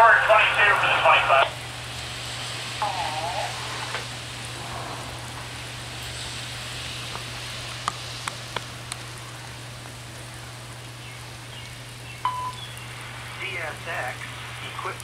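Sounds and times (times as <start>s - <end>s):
low steady hum: 0.0s - 15.0s
rain hissing: 0.0s - 15.0s.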